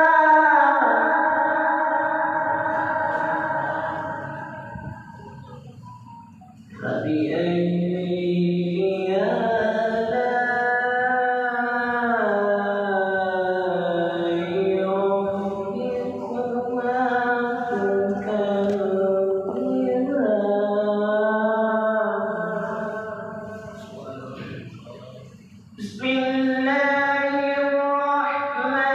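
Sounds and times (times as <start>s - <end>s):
man chanting melodically: 0.0s - 5.9s, 6.7s - 28.9s.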